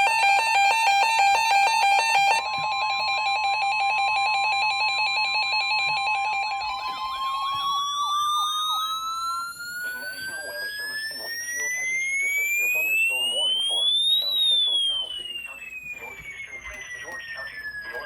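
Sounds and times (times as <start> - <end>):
electronic alarm tones: 0.0 - 18.0
warbling siren: 0.0 - 18.0.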